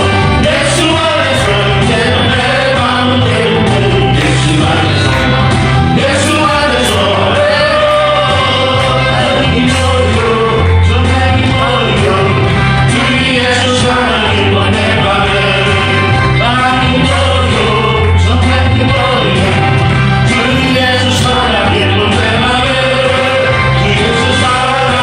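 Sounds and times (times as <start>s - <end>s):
instrumental accompaniment with bass: 0.0s - 25.0s
vocal ensemble singing: 0.0s - 25.0s.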